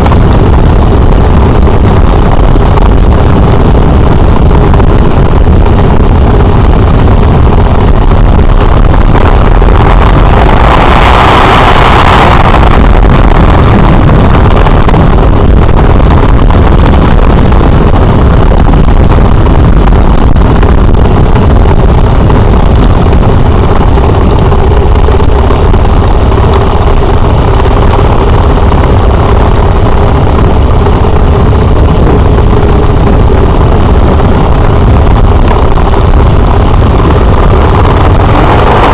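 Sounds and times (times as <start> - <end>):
motorcycle engine running: 0.0 - 38.9
rush of noise: 0.0 - 38.9.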